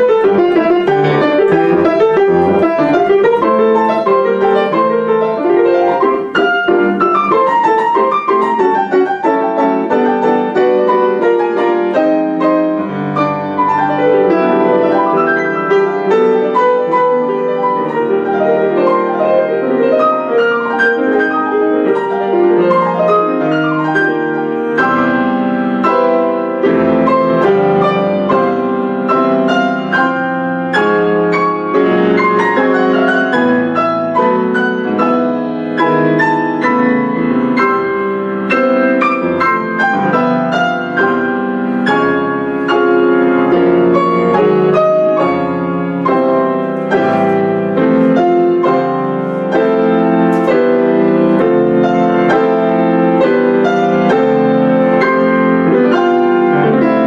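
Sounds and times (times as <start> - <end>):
solo classical piano: 0.0 - 57.0.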